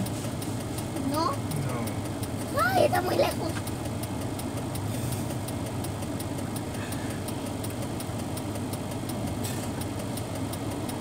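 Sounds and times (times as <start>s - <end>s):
car engine idling: 0.0s - 11.0s
fast even ticking: 0.0s - 11.0s.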